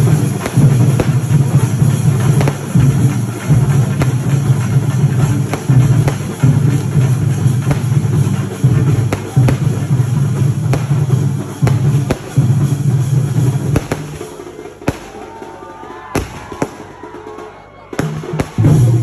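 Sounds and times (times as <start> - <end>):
fireworks bursting with sharp bangs: 0.0 - 19.0
loud music with heavy drum beat: 0.0 - 19.0.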